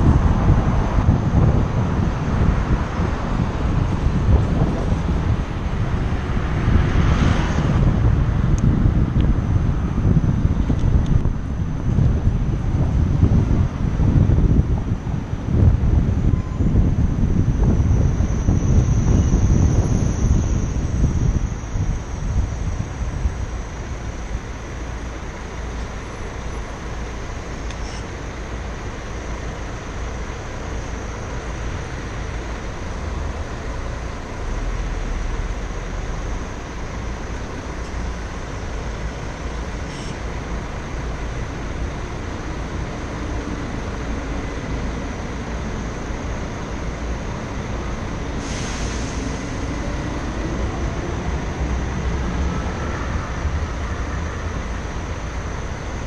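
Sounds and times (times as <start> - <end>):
engine rumble of cars and buses: 0.0 - 56.0
street traffic noise: 0.0 - 56.0.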